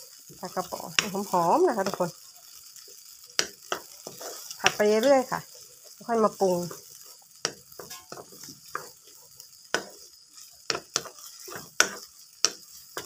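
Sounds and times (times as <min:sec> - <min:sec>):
faint sizzle of frying: 0:00.0 - 0:13.0
spatula scraping a pan: 0:00.0 - 0:13.0.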